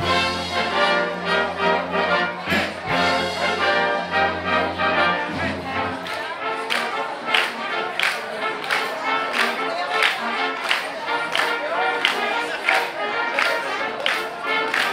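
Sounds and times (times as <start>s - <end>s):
brass band playing: 0.0s - 14.9s.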